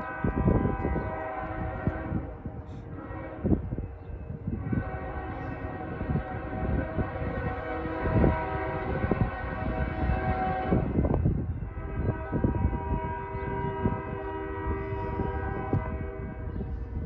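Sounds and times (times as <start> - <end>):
locomotive air horns: 0.0 - 3.7, 4.5 - 11.0, 11.7 - 16.9.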